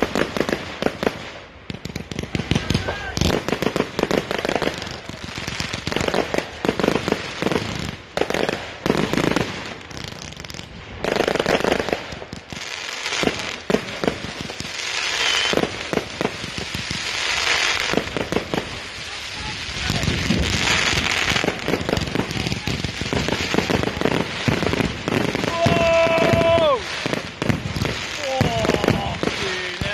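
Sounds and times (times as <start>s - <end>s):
fireworks bangs: 0.0s - 29.9s
fireworks crackling hiss: 0.0s - 29.9s.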